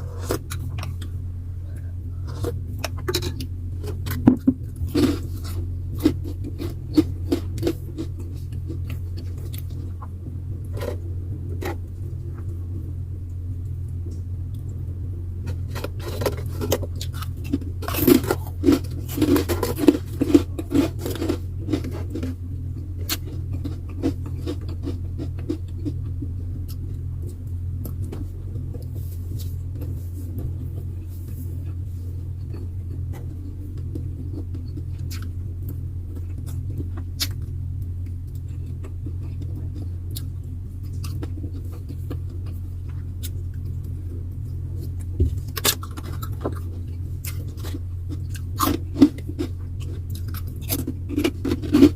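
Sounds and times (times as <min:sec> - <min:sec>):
chewing and crackling: 0:00.0 - 0:51.9
low hum: 0:00.0 - 0:51.9.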